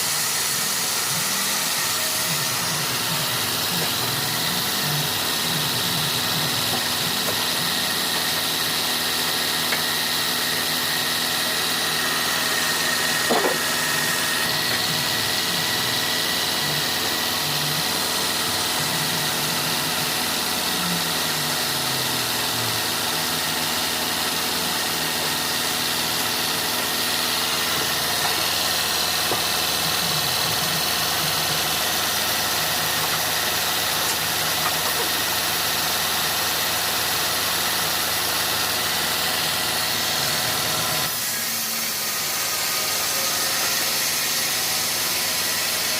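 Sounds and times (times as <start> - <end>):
engine-driven saw running: 0.0 - 45.9.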